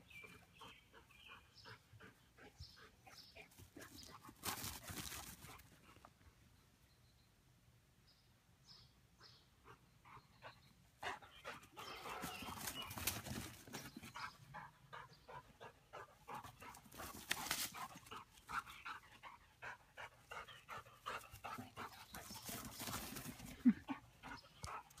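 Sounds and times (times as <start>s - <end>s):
dog panting: 0.2s - 6.1s, 9.6s - 25.0s.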